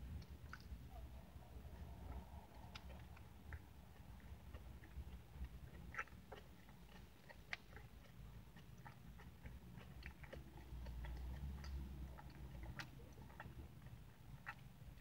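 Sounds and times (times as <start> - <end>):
close chewing with crunches: 0.0 - 15.0.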